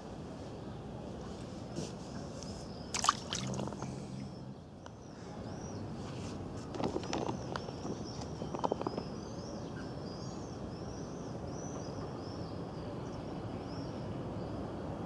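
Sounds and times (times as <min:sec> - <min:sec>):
low outdoor background hum: 0:00.0 - 0:15.0.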